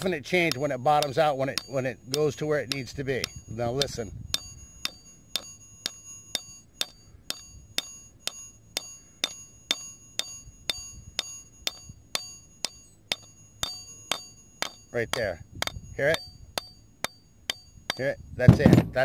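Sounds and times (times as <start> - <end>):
hammer tapping metal: 0.0 - 19.0.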